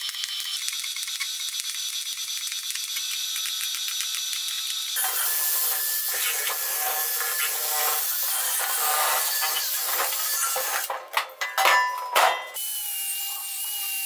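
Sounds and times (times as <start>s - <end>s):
drill spinning wire brush on steel: 0.0s - 14.0s
welding arc crackling: 0.0s - 14.0s.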